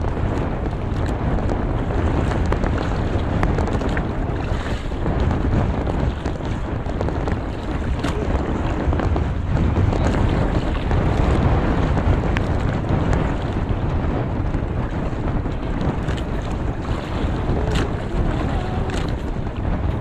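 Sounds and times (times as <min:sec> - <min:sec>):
sea noise: 0:00.0 - 0:20.0
wind rumble on microphone: 0:00.0 - 0:20.0.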